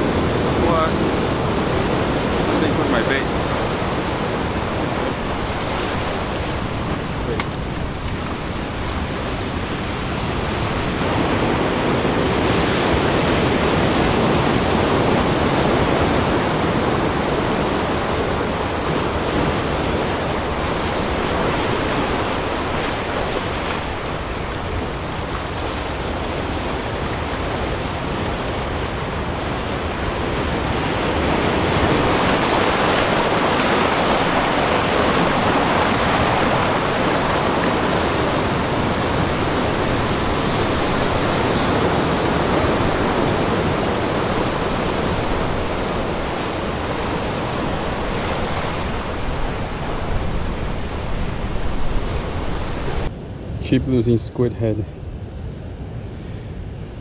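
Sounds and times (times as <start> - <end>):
ocean surf on rocks: 0.0 - 57.0.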